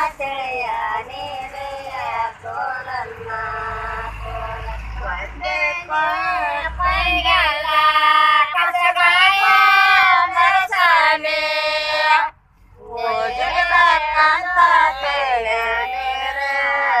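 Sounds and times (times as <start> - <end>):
women singing folk song: 0.0 - 17.0.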